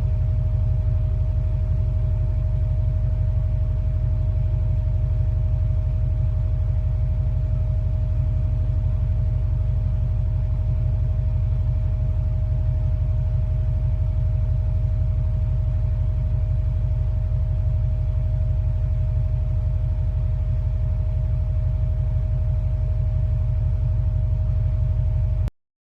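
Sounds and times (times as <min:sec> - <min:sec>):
steady higher hum: 0:00.0 - 0:25.5.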